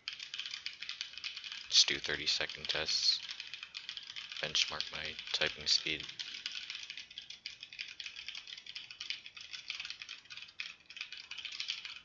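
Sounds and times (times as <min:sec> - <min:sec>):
rapid keyboard typing: 0:00.0 - 0:12.0.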